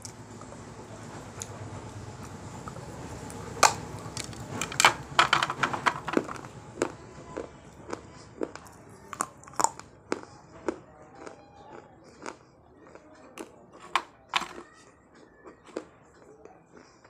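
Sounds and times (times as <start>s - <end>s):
teeth cracking baked clay: 2.2s - 17.0s.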